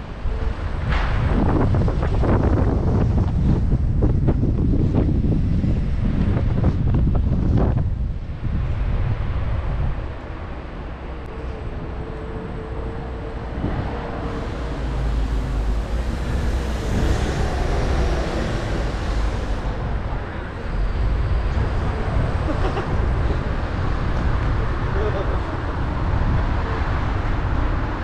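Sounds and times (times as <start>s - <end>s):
low rumble of traffic: 0.0s - 28.0s
passing vehicle: 0.0s - 28.0s
wind buffeting microphone: 0.0s - 28.0s.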